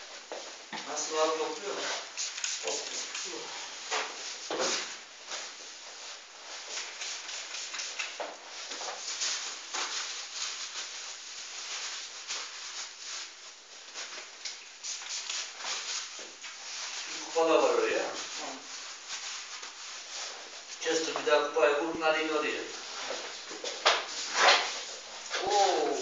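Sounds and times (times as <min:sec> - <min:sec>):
hands rubbing and patting skin: 0:00.9 - 0:05.6, 0:06.5 - 0:21.3, 0:22.8 - 0:26.0.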